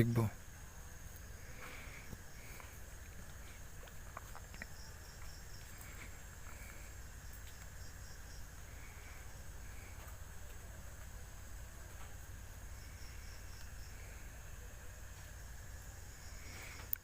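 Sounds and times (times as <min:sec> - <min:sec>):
faint high-pitched whine: 0:00.0 - 0:17.0
soft chirps: 0:01.0 - 0:17.0.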